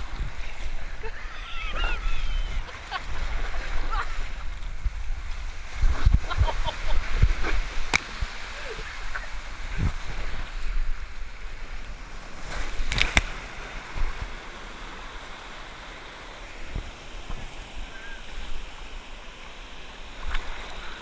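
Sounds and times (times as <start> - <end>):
pool water lapping: 0.0 - 21.0.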